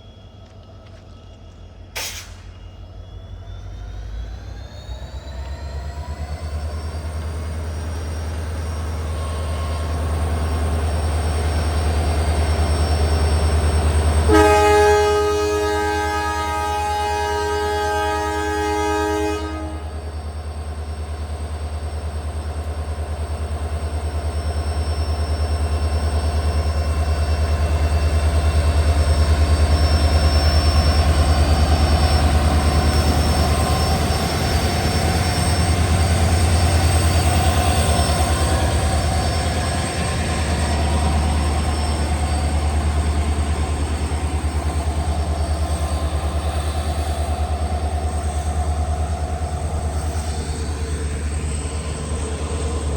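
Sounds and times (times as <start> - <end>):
diesel locomotive engine drumming: 0.0 - 52.9.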